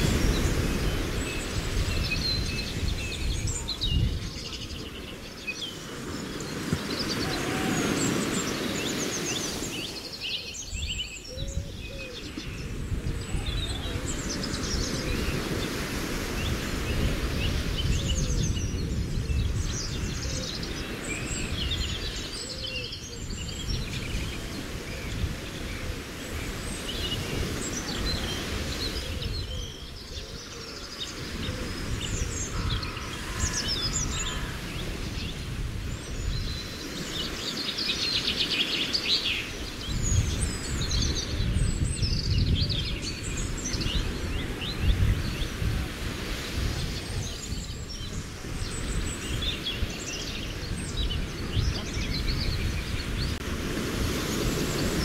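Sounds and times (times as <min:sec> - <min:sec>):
lake water washing: 0:00.0 - 0:11.2, 0:12.1 - 0:22.6, 0:23.6 - 0:42.0, 0:42.8 - 0:55.0
birds chirping: 0:00.0 - 0:55.0.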